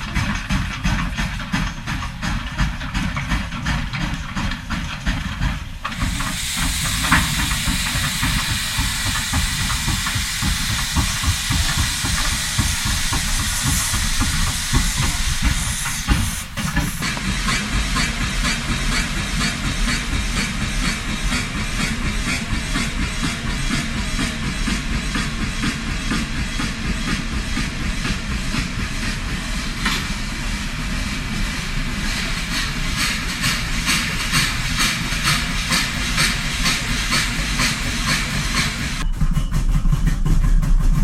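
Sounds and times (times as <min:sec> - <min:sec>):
steam train running rhythmically: 0:00.0 - 0:41.0
steam hissing: 0:04.0 - 0:39.1.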